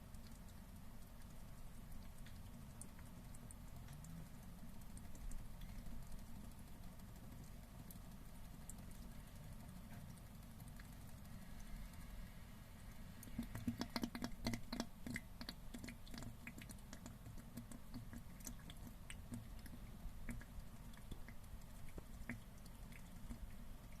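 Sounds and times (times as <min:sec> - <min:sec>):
crab clicking and popping: 0:00.0 - 0:24.0.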